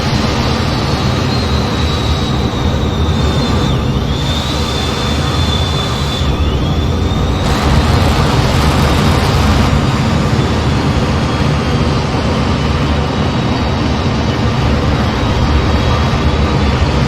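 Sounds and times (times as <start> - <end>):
jet rumble in cockpit: 0.0 - 17.0
thin high whine: 0.0 - 17.0.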